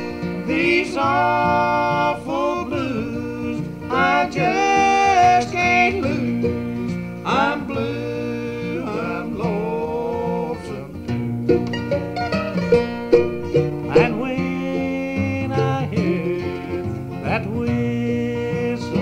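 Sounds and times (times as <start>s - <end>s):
person singing: 0.0s - 11.0s, 13.8s - 19.0s
banjo playing: 0.0s - 19.0s
guitar playing: 0.0s - 19.0s.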